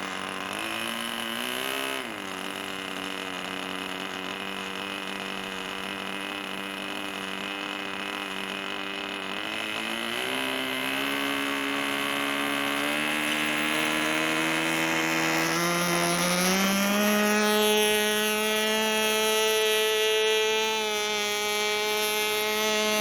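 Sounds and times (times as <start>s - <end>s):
model aeroplane engine buzzing: 0.0s - 23.0s.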